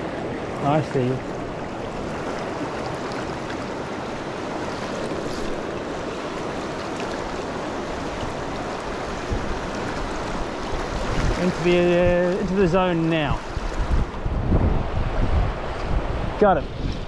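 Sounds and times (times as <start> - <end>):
river rushing over stones: 0.0 - 14.2.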